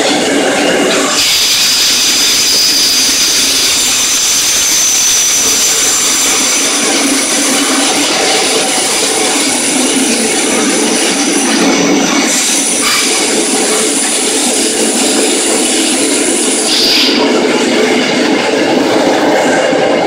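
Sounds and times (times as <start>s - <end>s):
subway wheels rumbling on rail: 0.0s - 20.0s.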